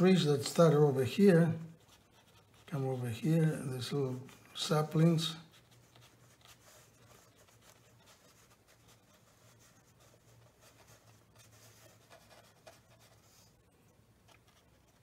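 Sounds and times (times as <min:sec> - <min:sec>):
paintbrush strokes on paper: 0:00.0 - 0:15.0.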